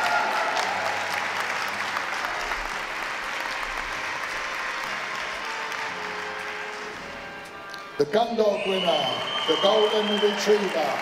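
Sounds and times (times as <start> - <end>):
audience applauding: 0.0 - 7.2, 8.3 - 11.0.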